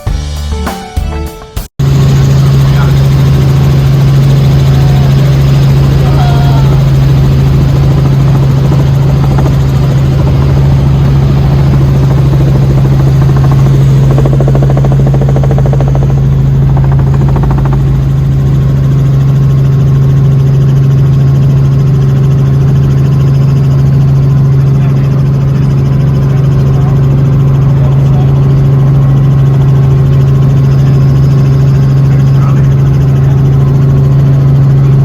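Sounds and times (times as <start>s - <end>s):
helicopter low drone: 1.8s - 35.0s.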